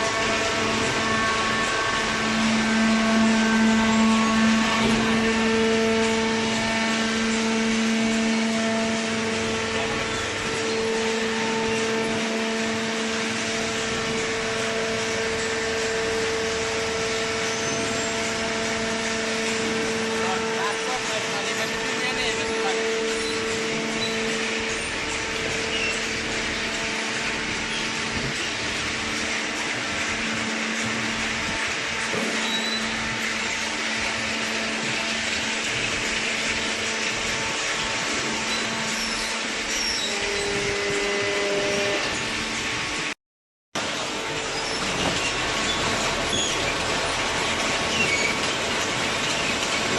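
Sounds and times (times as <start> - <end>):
hydraulic power unit humming: 0.0 - 43.2, 43.8 - 49.9.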